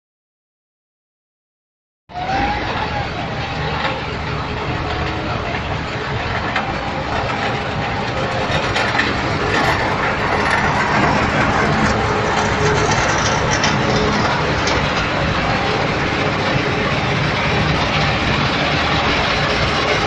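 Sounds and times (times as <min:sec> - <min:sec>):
crushing machinery rumbling: 0:02.1 - 0:20.0.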